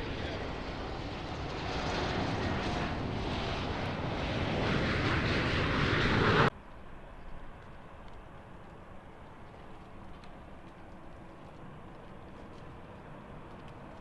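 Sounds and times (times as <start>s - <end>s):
airliner engine noise: 0.0s - 14.0s.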